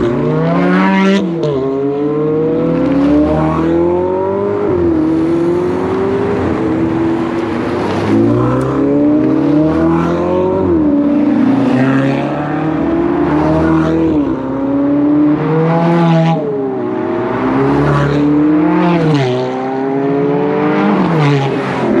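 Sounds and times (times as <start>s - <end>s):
sports cars accelerating: 0.0s - 22.0s.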